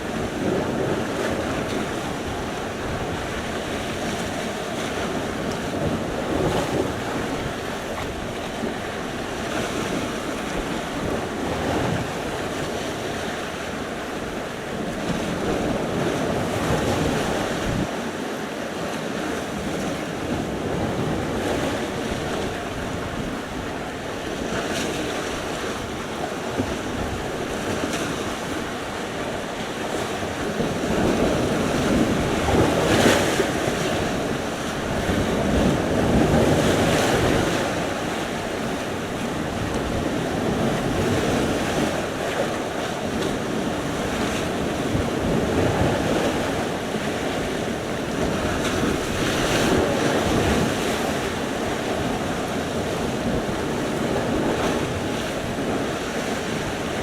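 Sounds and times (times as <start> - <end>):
waves breaking on shore: 0.0 - 57.0
wind on microphone: 0.0 - 57.0.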